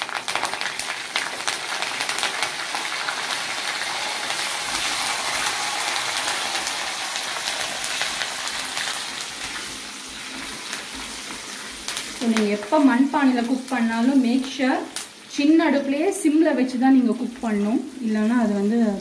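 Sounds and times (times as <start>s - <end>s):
leaves crackling in hot oil: 0.0s - 19.0s.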